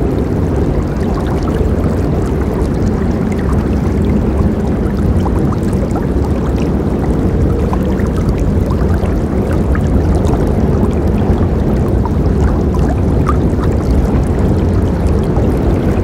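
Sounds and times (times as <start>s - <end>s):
river rushing roar: 0.0s - 16.0s
water splashes and gurgles: 0.0s - 16.0s.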